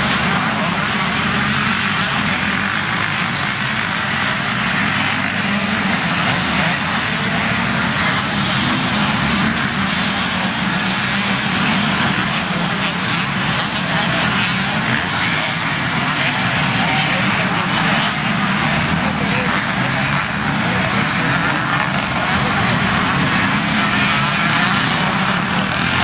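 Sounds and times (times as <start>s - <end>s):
motocross bike engines: 0.0s - 26.0s.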